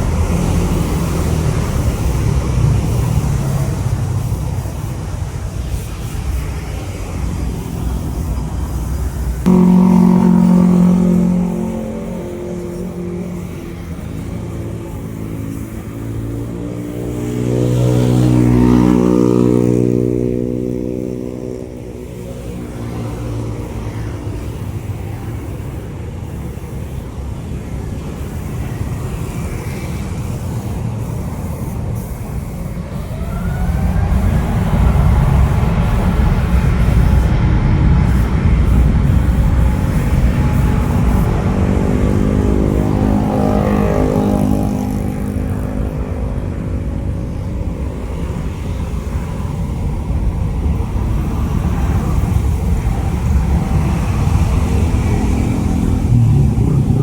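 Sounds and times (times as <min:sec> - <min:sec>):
low rumble of traffic: 0:00.0 - 0:57.0
passing vehicle engine hum: 0:00.0 - 0:57.0.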